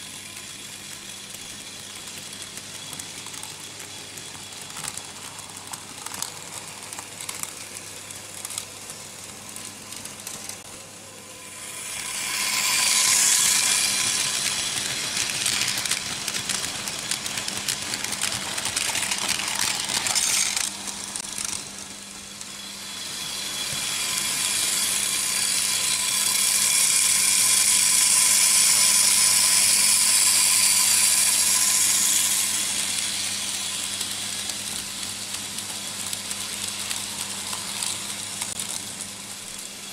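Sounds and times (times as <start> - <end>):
model train wheels clattering: 0.0 - 21.9, 23.2 - 39.6.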